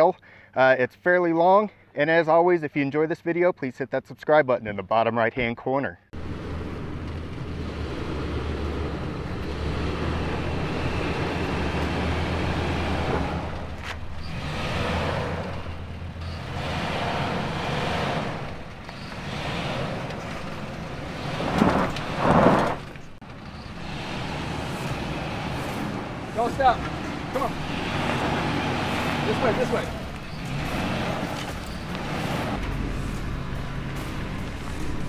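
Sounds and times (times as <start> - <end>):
truck engine running at low revs: 6.2 - 35.0.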